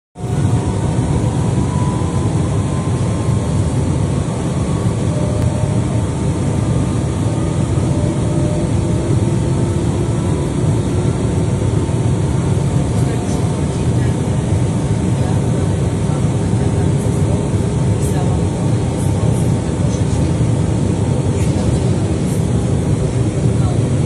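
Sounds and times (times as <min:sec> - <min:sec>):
train rumble from inside carriage: 0:00.2 - 0:24.0.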